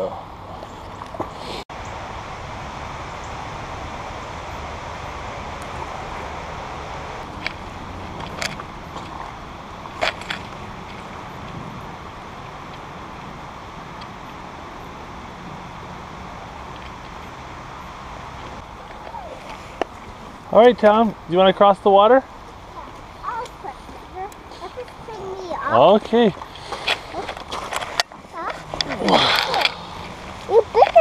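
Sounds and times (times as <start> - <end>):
creek running over rocks: 0.0 - 31.0.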